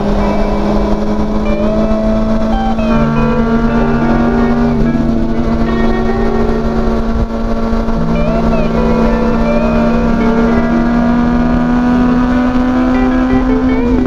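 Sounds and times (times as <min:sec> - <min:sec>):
motorcycle engine droning: 0:00.0 - 0:14.0
music with held notes: 0:00.0 - 0:14.0.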